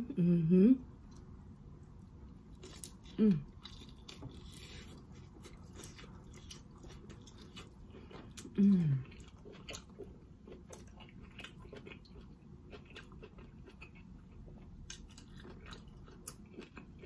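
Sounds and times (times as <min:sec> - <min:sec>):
person chewing: 0:01.0 - 0:17.0.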